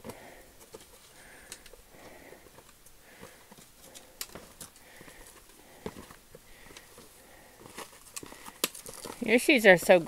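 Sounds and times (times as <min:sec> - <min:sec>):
heavy breathing: 0:00.0 - 0:09.2
trekking poles clicking on rock: 0:00.0 - 0:10.0.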